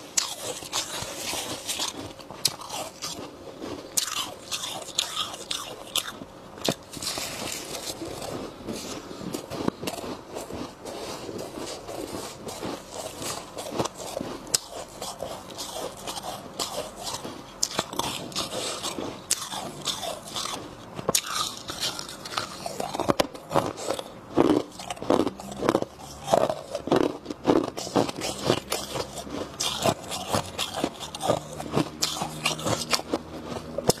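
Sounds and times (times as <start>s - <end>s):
person crunching ice: 0.0s - 34.0s.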